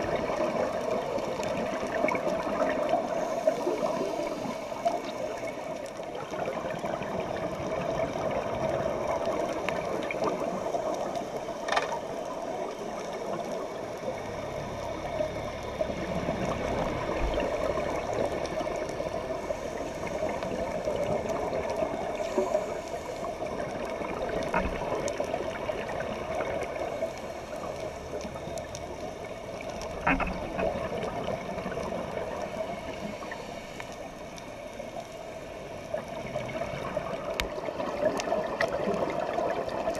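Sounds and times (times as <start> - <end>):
faint ticks: 0.0 - 39.9
muffled underwater rush: 0.0 - 39.9.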